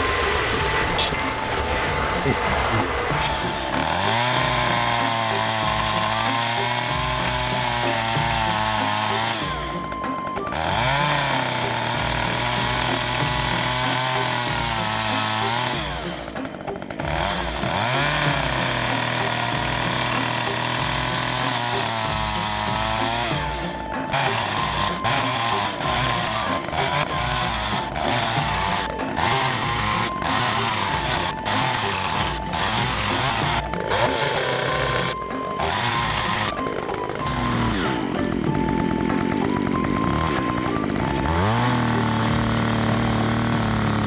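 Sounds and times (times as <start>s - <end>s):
chainsaw engine revving: 0.0s - 44.0s.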